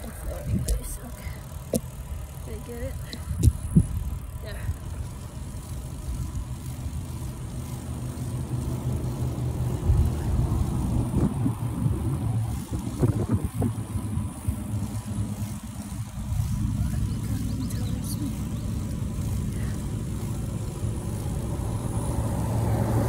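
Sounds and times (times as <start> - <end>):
wind buffeting microphone: 0.0 - 1.8, 2.9 - 7.3, 9.2 - 22.8.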